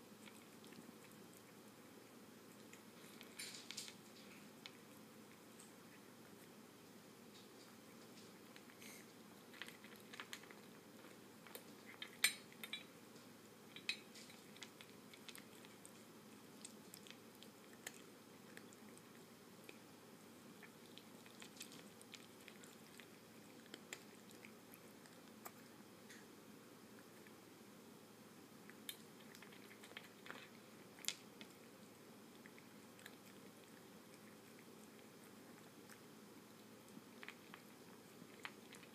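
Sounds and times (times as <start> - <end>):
cat crunching kibble: 0.1 - 6.6, 7.2 - 13.0, 13.6 - 27.5, 28.5 - 38.9.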